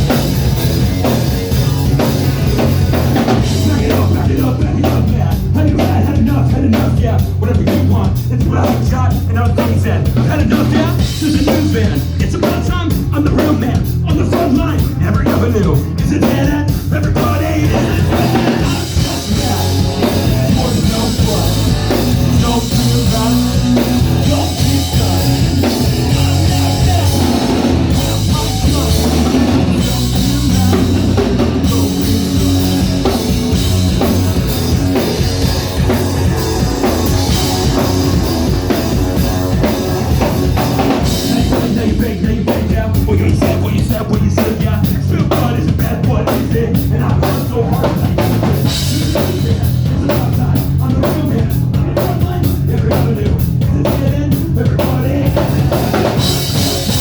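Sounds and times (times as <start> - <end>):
bass guitar: 0.0 - 57.0
distorted guitars: 0.0 - 57.0
fast driving drum beat: 0.0 - 57.0
rock band playing: 0.0 - 57.0.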